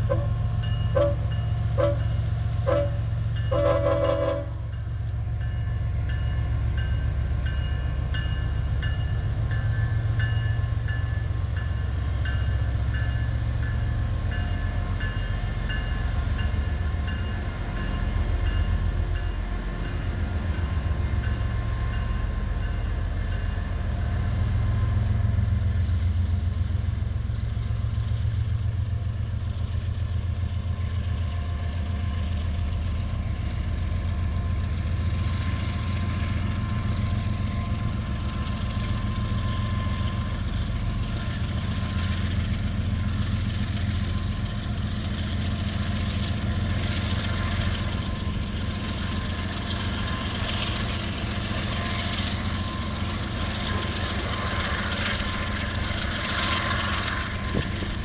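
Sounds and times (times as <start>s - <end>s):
diesel locomotive engine humming: 0.0s - 58.0s.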